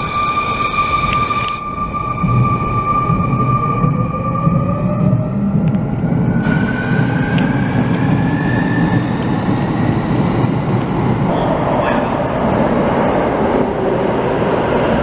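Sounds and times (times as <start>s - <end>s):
low rumble of train wheels: 0.0s - 15.0s
train traction motors whining: 0.0s - 15.0s.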